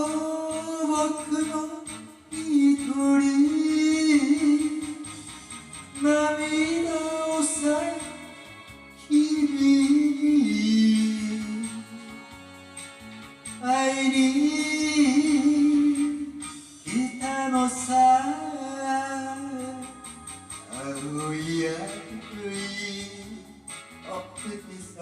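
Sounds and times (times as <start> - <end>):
karaoke backing track: 0.0 - 25.0.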